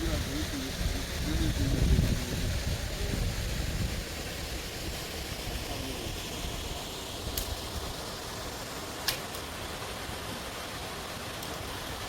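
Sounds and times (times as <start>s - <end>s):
even outdoor hiss: 0.0s - 12.0s.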